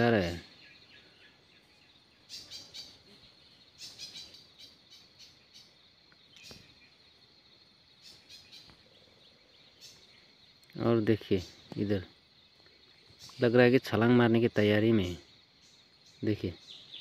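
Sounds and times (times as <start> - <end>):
bird chirps: 0.0 - 17.0
insect drone: 0.0 - 17.0.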